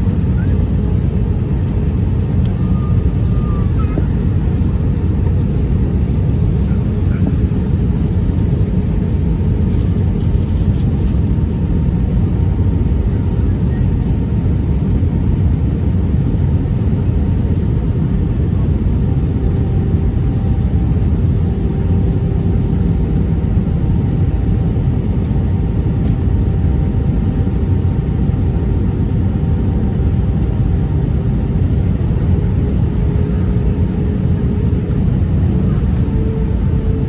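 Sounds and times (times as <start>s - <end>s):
aircraft cabin rumble: 0.0s - 37.0s.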